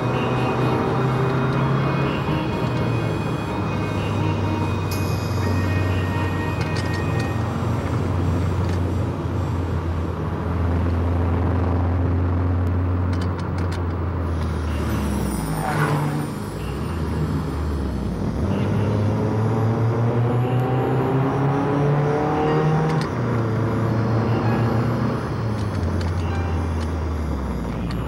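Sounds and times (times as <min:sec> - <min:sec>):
road and tyre noise: 0:00.0 - 0:28.0.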